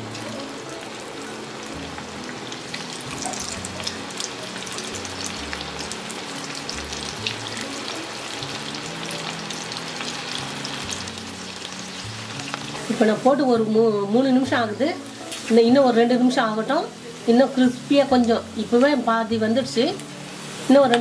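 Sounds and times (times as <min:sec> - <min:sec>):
soft background music: 0:00.0 - 0:21.0
squid sizzling in hot oil: 0:00.0 - 0:21.0.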